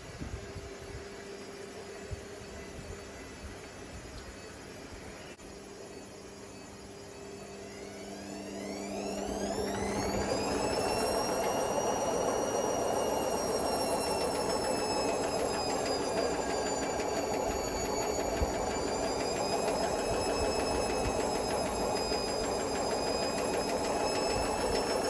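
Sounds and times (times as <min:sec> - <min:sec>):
washing machine motor whine: 0:00.0 - 0:25.0.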